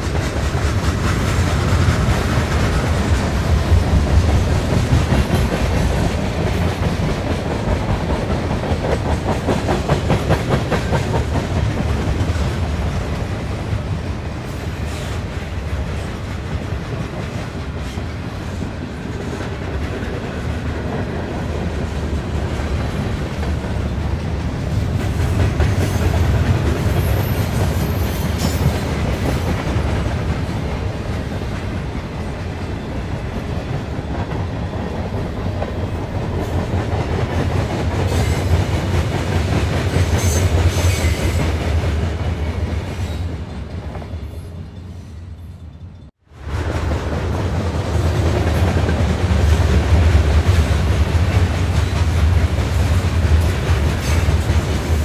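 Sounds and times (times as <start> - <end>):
train wheels clicking over rail joints: 0.0 - 45.0, 45.6 - 55.0
steam locomotives under steam: 0.0 - 55.0.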